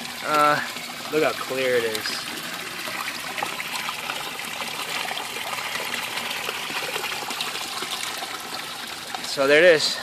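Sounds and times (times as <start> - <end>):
fountain water splashing: 0.0 - 9.8.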